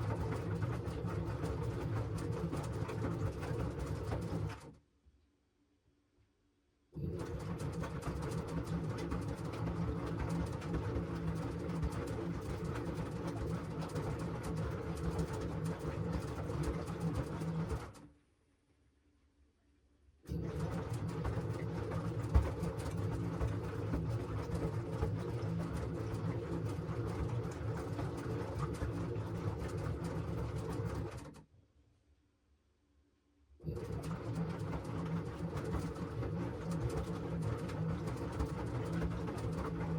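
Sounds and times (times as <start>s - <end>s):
washing machine running: 0.0s - 4.7s, 7.0s - 18.1s, 20.3s - 31.4s, 33.6s - 39.9s.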